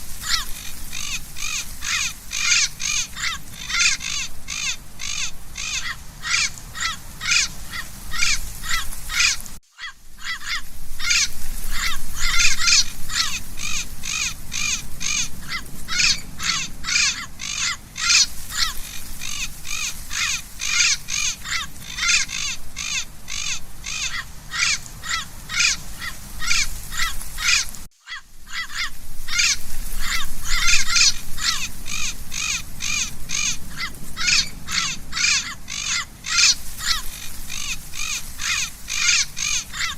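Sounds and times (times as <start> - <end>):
parrot squawking: 0.2 - 39.9.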